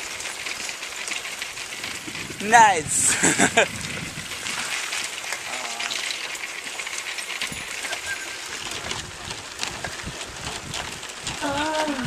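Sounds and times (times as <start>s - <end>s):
bicycle rattling over dirt track: 0.0s - 12.0s
tyre and wind hiss: 0.0s - 12.0s.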